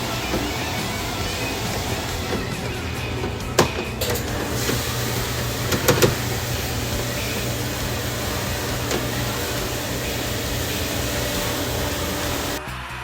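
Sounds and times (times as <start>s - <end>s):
machinery humming and whirring: 0.0s - 12.6s.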